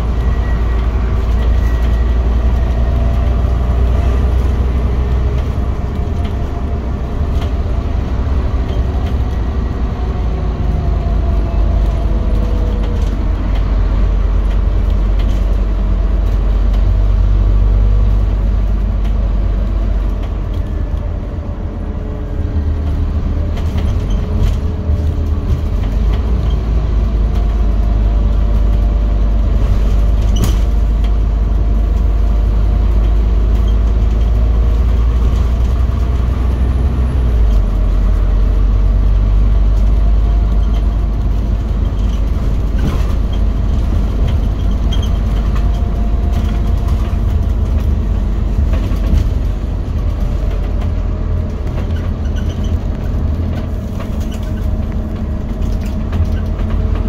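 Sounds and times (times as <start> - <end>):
bus engine rumbling: 0.0 - 57.0.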